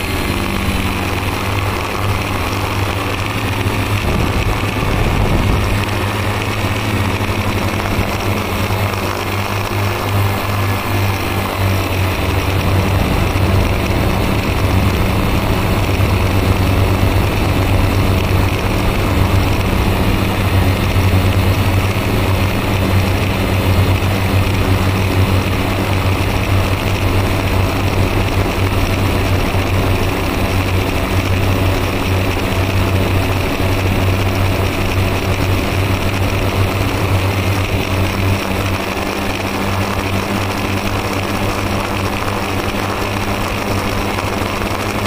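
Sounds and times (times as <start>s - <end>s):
drone motors and propellers: 0.0s - 45.0s.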